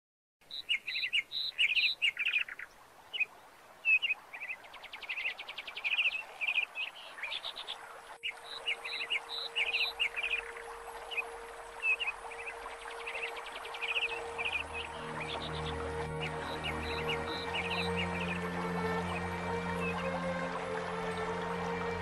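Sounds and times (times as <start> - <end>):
birds chirping and trilling: 0.4 - 22.0.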